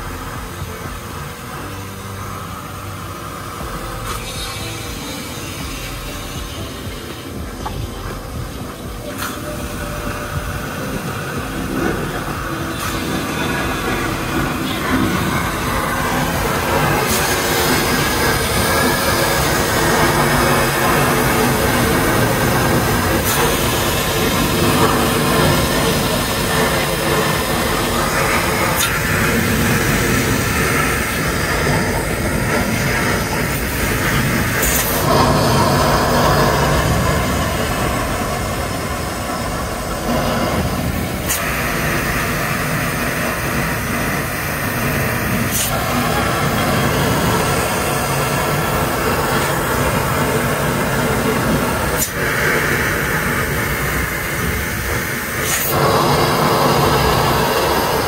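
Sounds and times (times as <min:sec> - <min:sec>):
pressure washer spraying water: 0:00.0 - 0:58.0.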